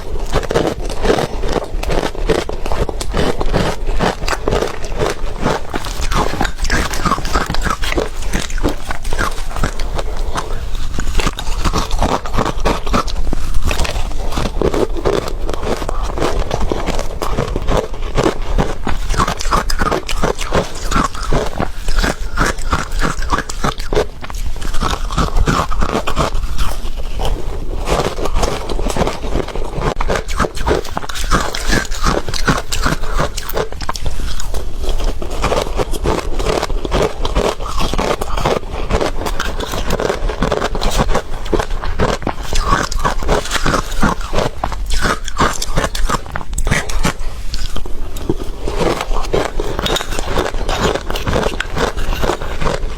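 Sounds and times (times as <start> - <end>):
ice being chewed: 0.0 - 52.9.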